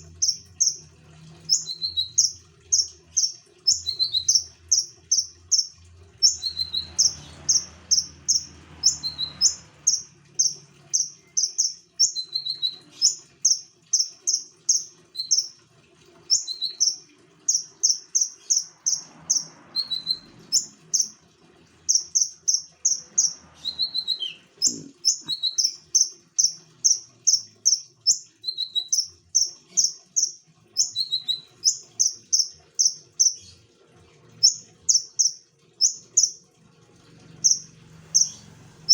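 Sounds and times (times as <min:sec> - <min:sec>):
songbird singing: 0:00.0 - 0:15.6, 0:16.3 - 0:21.2, 0:21.8 - 0:33.6, 0:34.4 - 0:36.4, 0:37.3 - 0:38.9.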